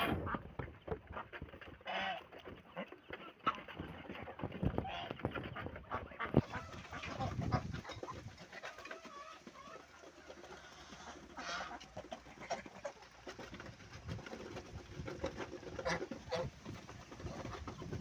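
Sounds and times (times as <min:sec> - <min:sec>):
poultry calls: 0:00.0 - 0:18.0.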